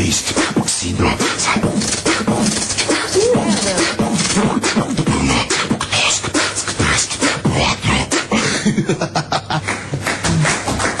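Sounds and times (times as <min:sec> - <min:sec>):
person beatboxing: 0:00.0 - 0:08.9, 0:09.6 - 0:11.0.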